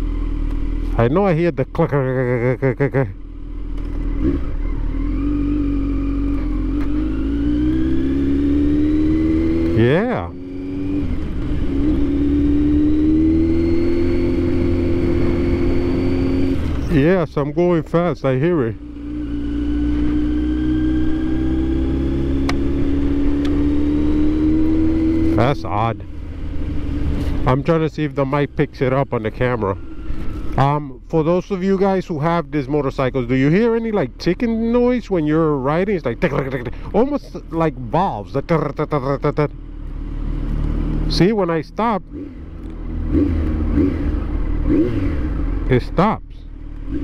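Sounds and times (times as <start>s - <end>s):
low wind rumble: 3.4s - 41.1s.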